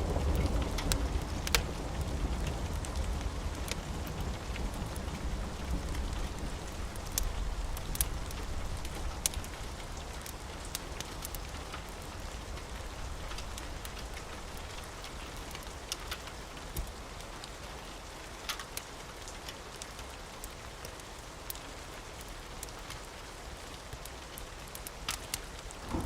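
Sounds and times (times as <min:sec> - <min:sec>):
steady rain falling: 0:00.0 - 0:26.0
wood fire crackling: 0:00.0 - 0:26.0.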